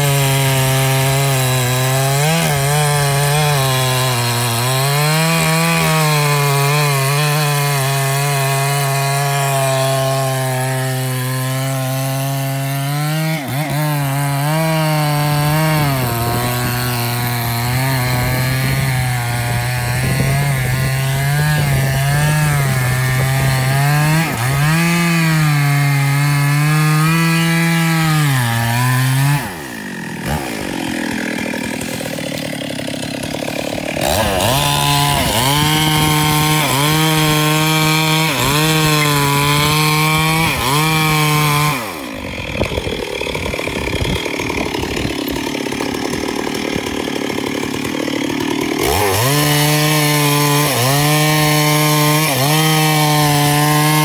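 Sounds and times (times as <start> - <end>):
chainsaw cutting wood: 0.0 - 54.0
chainsaw idling: 0.0 - 54.0.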